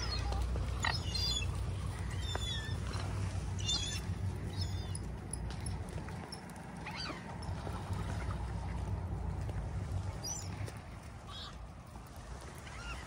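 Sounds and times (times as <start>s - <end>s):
steady low rumble: 0.0s - 12.6s
waterbirds calling: 0.0s - 13.0s.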